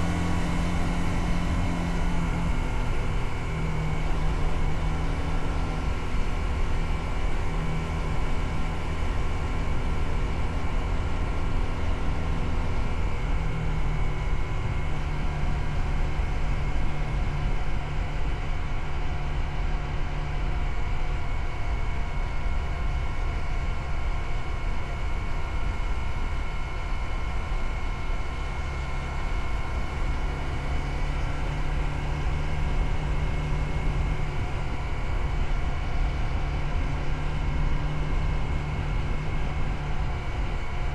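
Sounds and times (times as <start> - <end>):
motorcycle engine running: 0.0 - 20.6, 28.2 - 40.9
continuous low rumble: 0.0 - 40.9.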